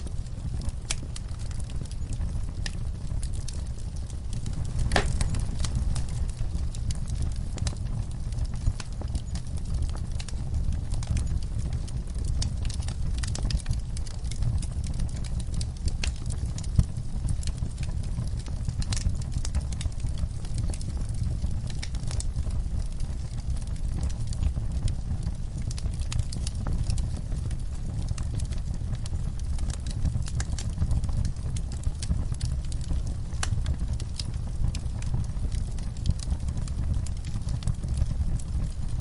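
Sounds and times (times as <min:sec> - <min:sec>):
low rumble of flames: 0:00.0 - 0:39.0
wood fire crackling: 0:00.0 - 0:39.0.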